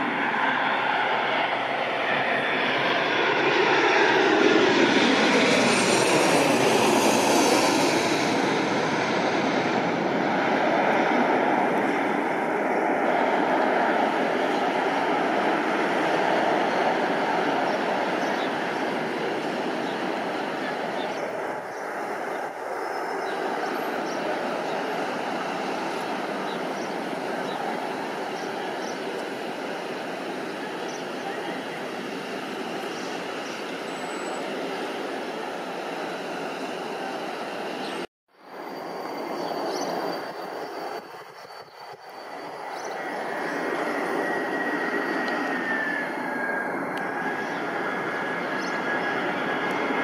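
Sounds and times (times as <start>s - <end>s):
jet airliner engine noise: 0.0s - 50.0s.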